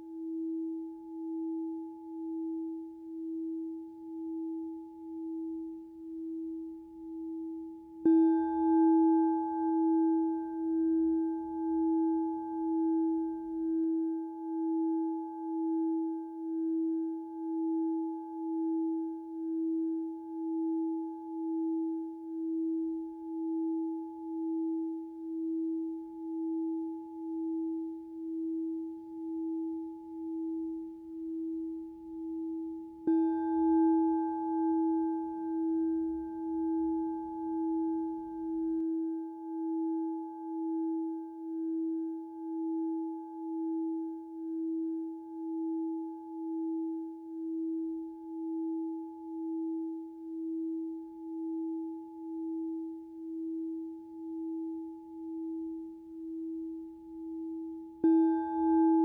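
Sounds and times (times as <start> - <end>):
singing bowl ringing: 0.0 - 59.0.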